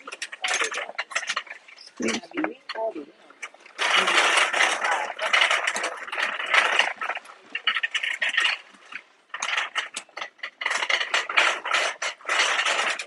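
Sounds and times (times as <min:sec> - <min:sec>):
shopping cart rattling: 0:00.0 - 0:13.0.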